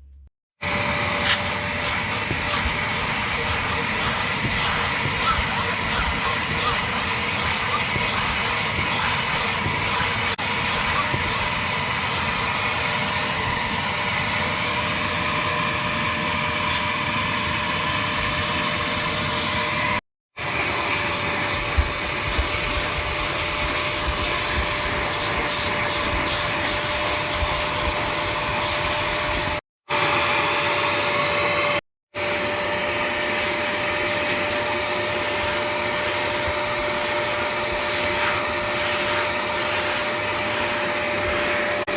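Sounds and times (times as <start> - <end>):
carpet cleaner motor whine: 0.6 - 41.9.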